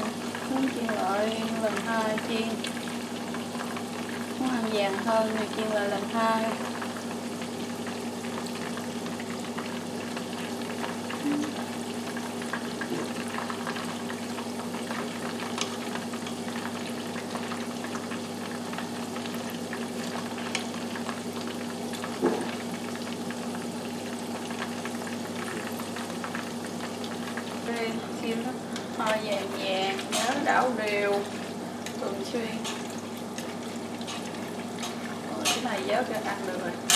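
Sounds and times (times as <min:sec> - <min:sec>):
chicken wings deep-frying in oil: 0:00.0 - 0:36.9.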